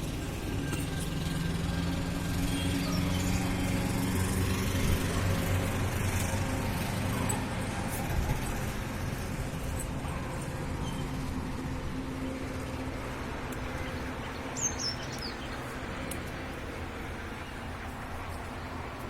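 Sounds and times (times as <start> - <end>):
road traffic noise: 0.0 - 19.0
vehicle engine humming: 0.0 - 19.0.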